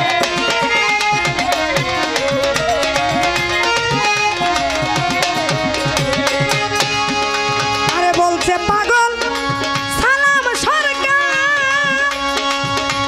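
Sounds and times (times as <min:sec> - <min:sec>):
hand drum beat: 0:00.0 - 0:12.9
bowed violin melody: 0:00.0 - 0:13.0.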